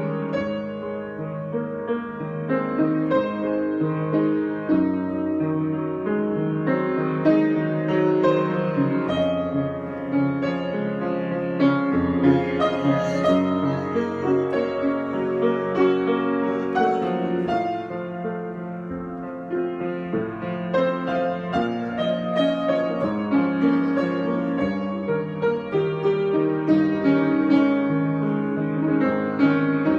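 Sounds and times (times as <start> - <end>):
solo piano improvisation: 0.0 - 29.9.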